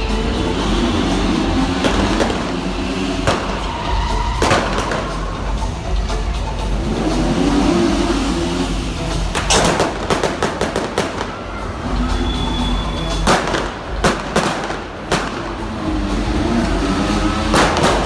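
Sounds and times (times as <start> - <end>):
pyrotechnic bangs: 0.0 - 7.4, 8.0 - 18.0
car engine running: 0.0 - 18.0.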